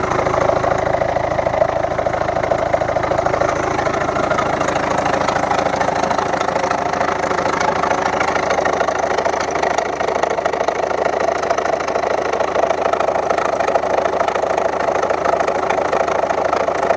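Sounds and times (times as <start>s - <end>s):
diesel engine idling with knock: 0.0s - 16.9s.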